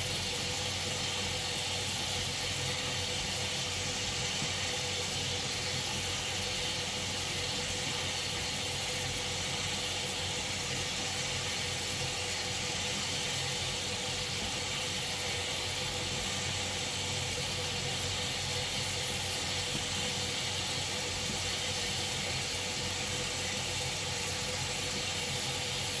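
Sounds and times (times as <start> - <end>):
tap water running into metal sink: 0.0 - 26.0.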